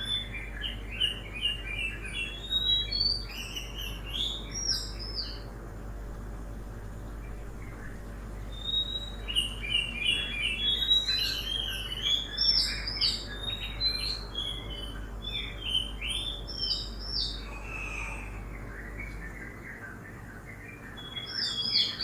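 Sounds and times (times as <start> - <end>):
small birds chirping: 0.0 - 5.6, 7.1 - 22.0
low rumble of city noise: 0.0 - 22.0.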